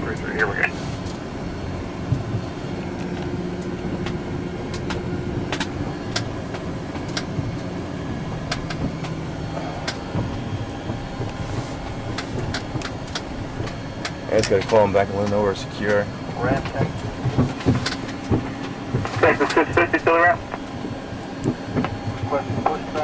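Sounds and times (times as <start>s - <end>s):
cockpit rumble and hum: 0.0s - 23.0s.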